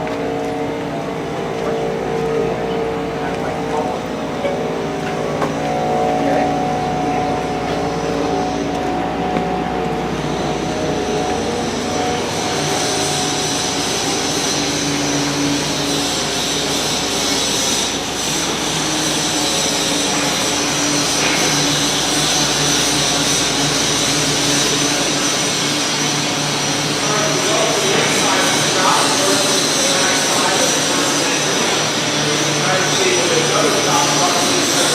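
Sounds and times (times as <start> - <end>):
machinery roaring with whining tones: 0.0 - 34.9.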